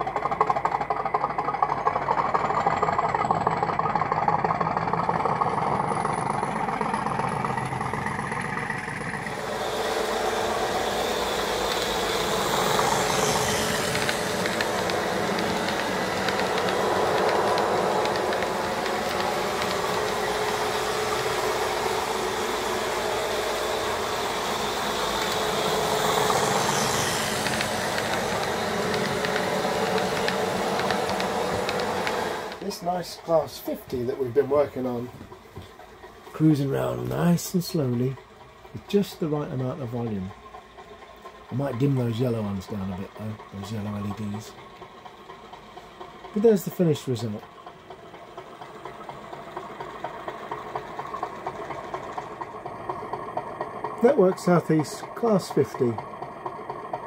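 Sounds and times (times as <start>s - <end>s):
diesel engine sound from small speaker: 0.0s - 57.0s.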